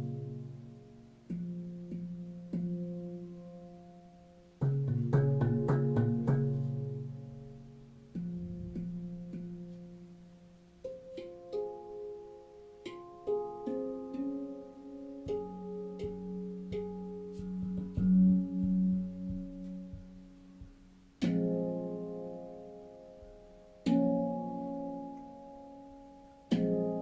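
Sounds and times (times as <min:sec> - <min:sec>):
handpan notes ringing: 0:00.0 - 0:27.0.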